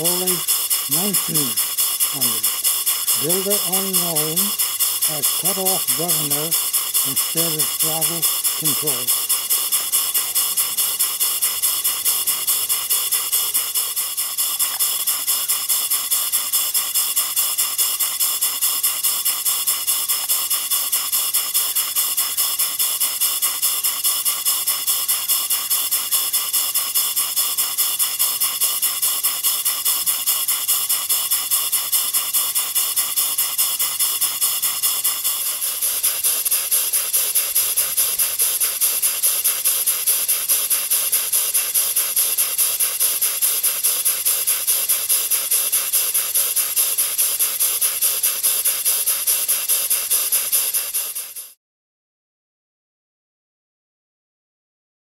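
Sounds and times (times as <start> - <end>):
model steam engine hissing and puffing: 0.0 - 51.6.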